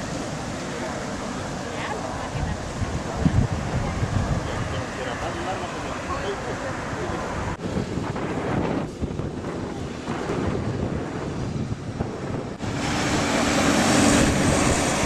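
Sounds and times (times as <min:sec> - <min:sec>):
jet engines roaring: 0:00.0 - 0:15.0
wind noise on microphone: 0:01.3 - 0:15.0.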